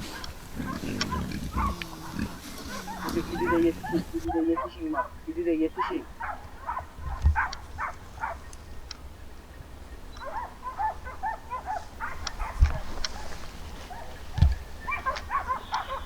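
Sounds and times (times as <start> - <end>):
dogs barking and yelping: 0.0 - 5.2, 5.8 - 8.5, 10.2 - 16.0.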